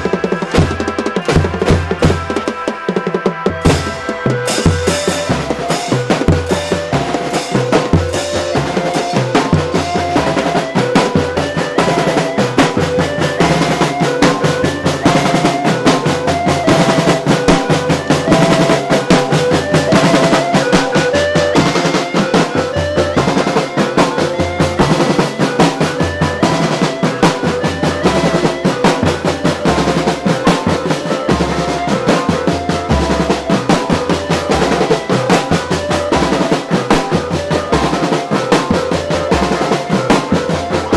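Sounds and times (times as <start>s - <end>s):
snare drum rolls: 0.0s - 40.9s.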